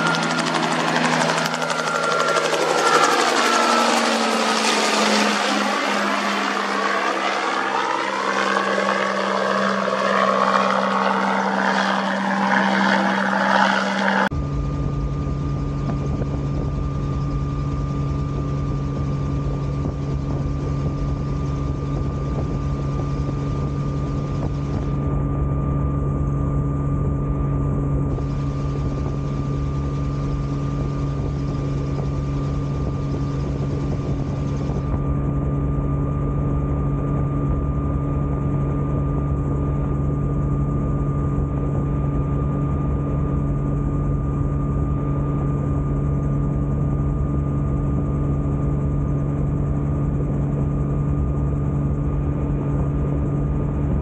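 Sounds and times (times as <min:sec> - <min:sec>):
helicopter engine and rotor drone: 0:00.0 - 0:54.0
helicopter flying past: 0:00.0 - 0:54.0.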